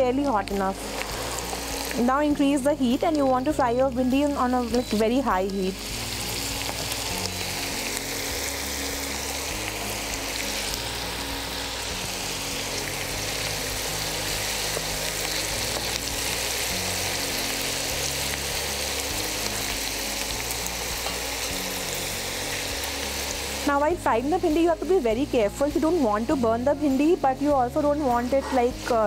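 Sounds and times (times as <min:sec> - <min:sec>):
oil sizzling while deep-frying: 0:00.0 - 0:29.0.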